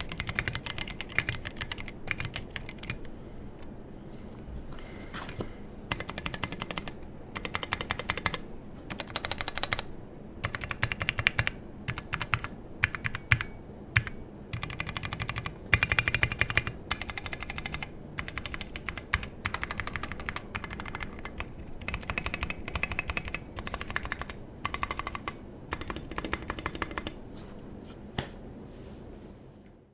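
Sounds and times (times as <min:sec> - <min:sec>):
mechanical keyboard keys clacking: 0:00.0 - 0:03.1, 0:05.9 - 0:27.2.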